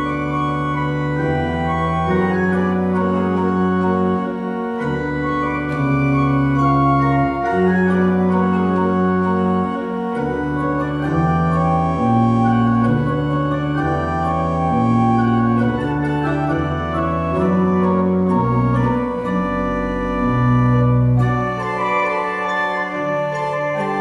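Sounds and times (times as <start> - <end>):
pipe organ chords: 0.0 - 24.0.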